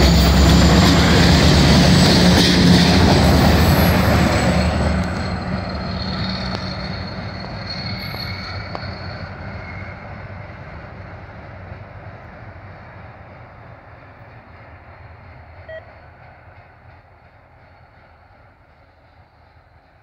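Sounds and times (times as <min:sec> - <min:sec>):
diesel locomotive engine rumble: 0:00.0 - 0:20.0
train wheels on rails: 0:00.0 - 0:20.0.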